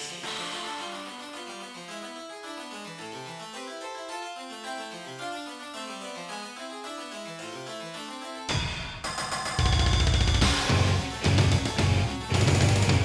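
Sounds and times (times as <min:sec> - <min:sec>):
harpsichord-style keyboard music: 0:00.0 - 0:13.0.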